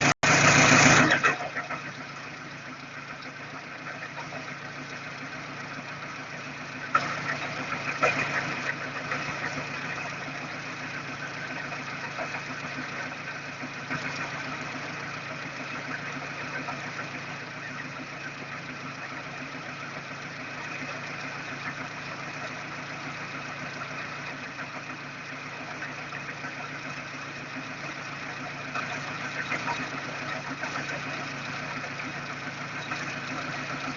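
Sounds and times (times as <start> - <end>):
car engine idling with knock: 0.0 - 33.9.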